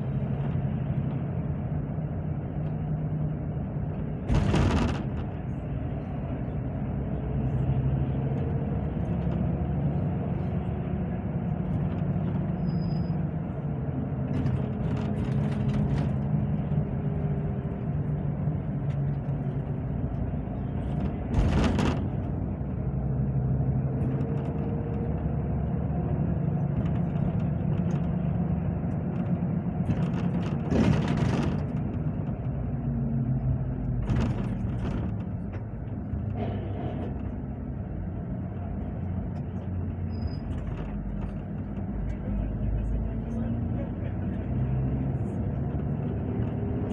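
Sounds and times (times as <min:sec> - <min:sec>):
bus engine drone: 0:00.0 - 0:46.9.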